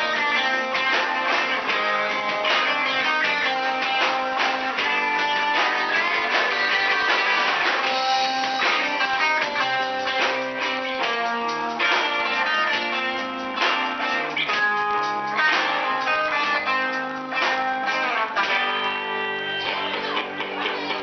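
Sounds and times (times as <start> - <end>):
drum kit: 0.0 - 21.0
electric guitars strumming: 0.0 - 21.0.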